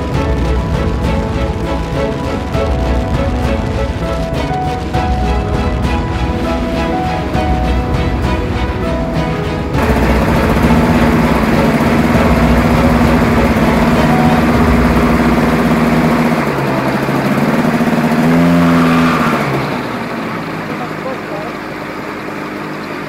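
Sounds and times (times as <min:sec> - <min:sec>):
light aircraft engine running: 0:00.0 - 0:23.0.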